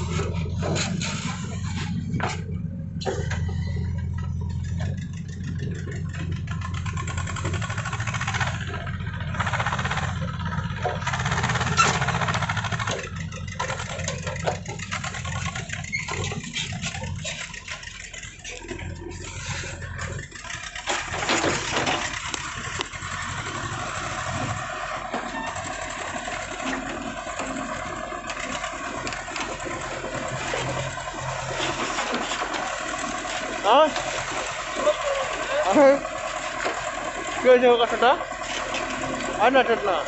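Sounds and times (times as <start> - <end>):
clattering and scraping: 0.0 - 40.0
diesel engine under load: 0.0 - 40.0.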